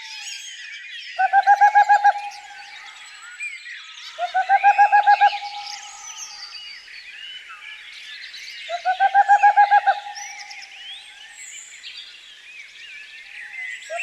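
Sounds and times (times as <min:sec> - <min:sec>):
birds chirping and twittering: 0:00.0 - 0:14.0.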